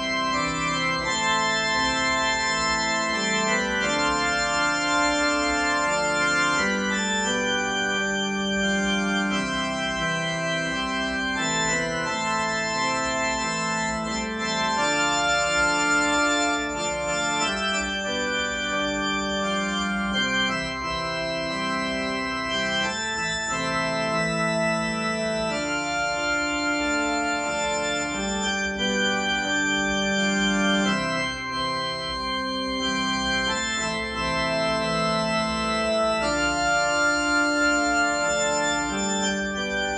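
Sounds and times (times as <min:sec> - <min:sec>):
keyboard organ playing hymn chords: 0:00.0 - 0:39.9.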